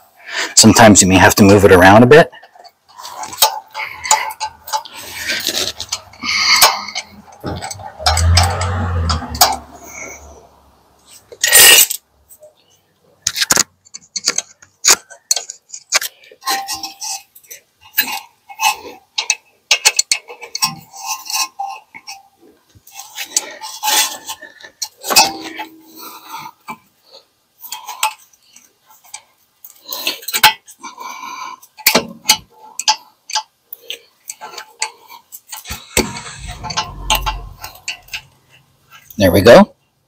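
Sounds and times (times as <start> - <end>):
metallic clicks and scrapes: 2.4 - 10.4, 11.0 - 39.4.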